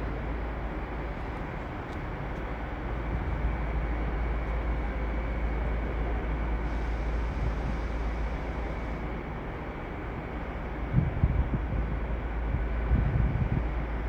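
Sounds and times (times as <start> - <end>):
train rumbling at a station: 0.0 - 14.0.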